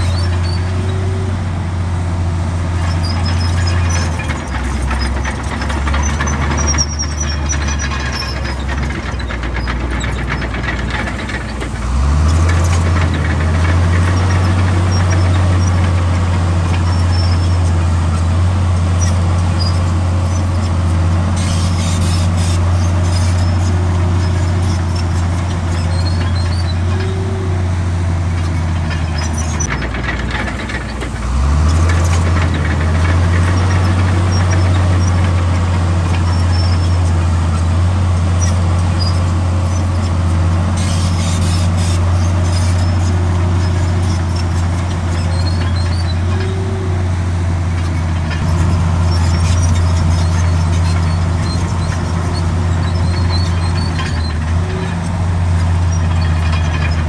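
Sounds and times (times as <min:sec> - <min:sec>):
faint high squeaks: 0:00.0 - 0:01.3, 0:02.8 - 0:57.0
bulldozer diesel engine running: 0:00.0 - 0:57.0.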